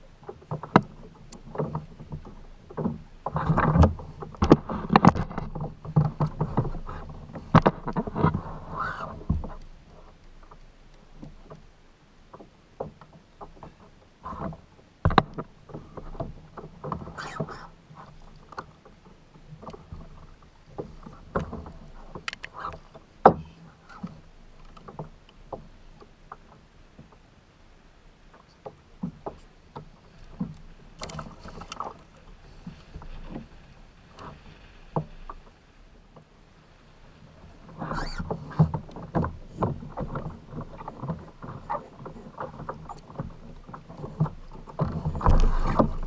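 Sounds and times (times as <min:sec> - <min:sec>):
knocks and clatter on kayak: 0:00.0 - 0:46.0.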